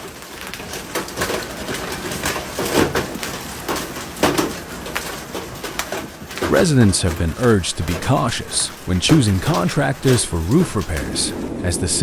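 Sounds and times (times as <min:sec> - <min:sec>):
hailstones clattering on hard surfaces: 0:00.0 - 0:11.5.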